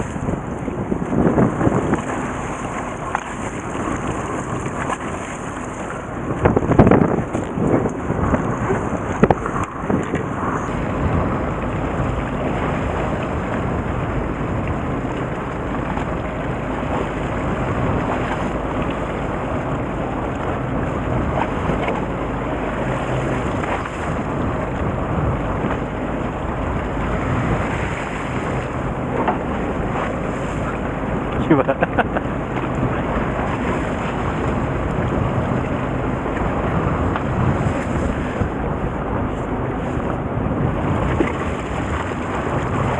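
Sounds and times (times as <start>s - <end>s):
boat engine hum: 0.0s - 42.9s
rushing water: 0.0s - 42.9s
wind buffeting microphone: 0.0s - 42.9s.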